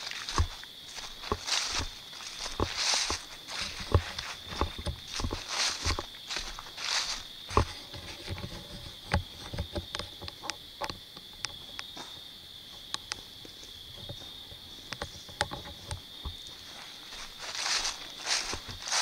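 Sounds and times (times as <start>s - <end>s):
leaves and twigs crackling underfoot: 0.0s - 12.3s, 12.9s - 19.0s
insects trilling: 0.0s - 19.0s.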